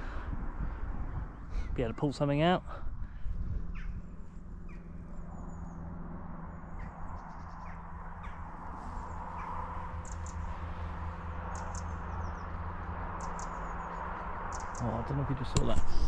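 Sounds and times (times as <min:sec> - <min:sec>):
steady low rumble: 0:00.0 - 0:16.0
birds calling: 0:01.3 - 0:16.0.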